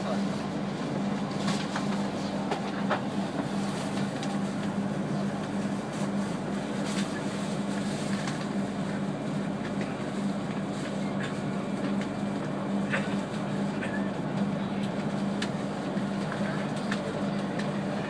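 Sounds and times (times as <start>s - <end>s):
constant low hum: 0.0s - 18.0s
train cabin running noise: 0.0s - 18.0s.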